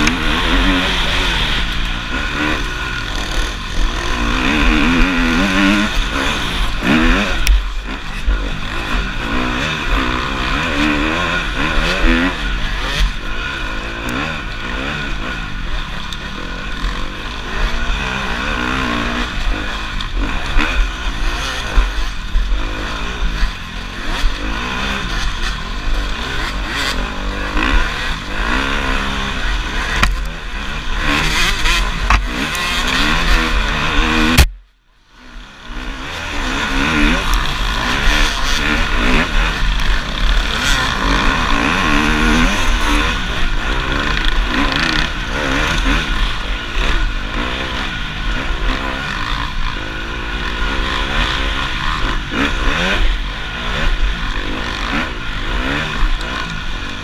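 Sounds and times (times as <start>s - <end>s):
dirt bike engine revving: 0.0s - 57.0s
other bikes running: 0.0s - 57.0s.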